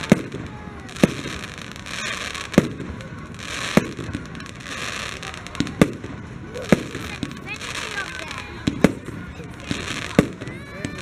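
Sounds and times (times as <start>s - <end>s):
hissing crackle: 0.0s - 11.0s.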